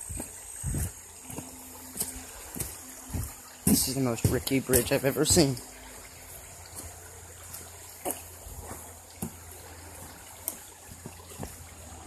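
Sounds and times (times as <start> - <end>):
footsteps on wooden planks: 0.0 - 5.6, 6.5 - 12.0
stream trickling: 0.0 - 12.0.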